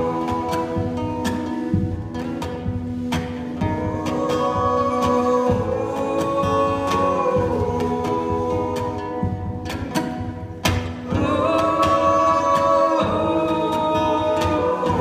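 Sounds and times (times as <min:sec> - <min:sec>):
acoustic guitar strumming: 0:00.0 - 0:15.0
layered wordless vocal harmonies: 0:00.0 - 0:15.0.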